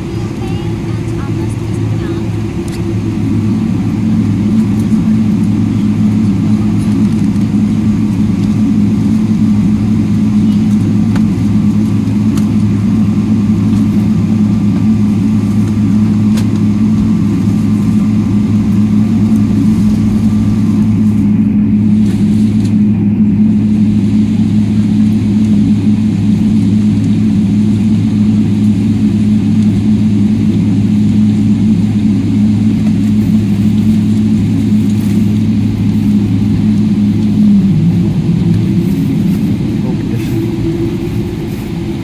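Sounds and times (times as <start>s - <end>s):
moving vehicle low drone: 0.0s - 42.0s.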